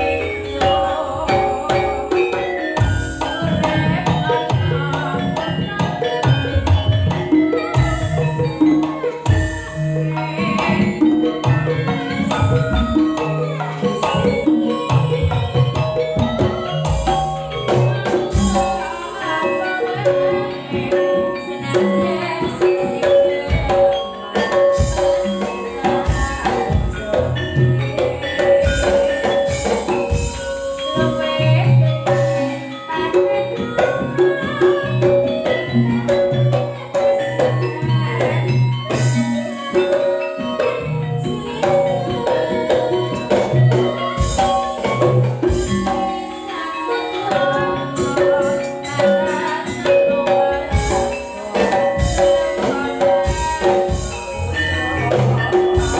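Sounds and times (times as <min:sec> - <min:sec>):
ensemble of metal percussion and drums: 0:00.0 - 0:55.9.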